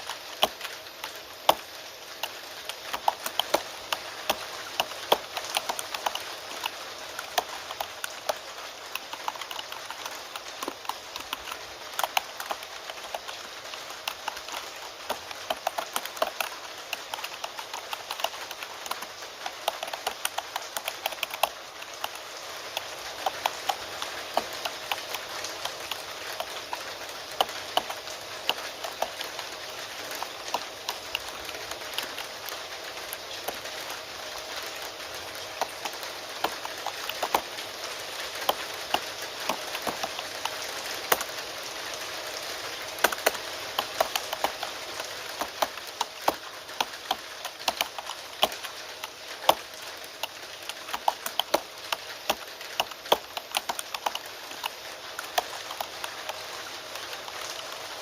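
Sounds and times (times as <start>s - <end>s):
keyboard typing clicks: 0.0s - 29.4s, 30.1s - 33.8s, 35.2s - 41.4s, 43.0s - 58.0s
steady rain: 0.0s - 58.0s.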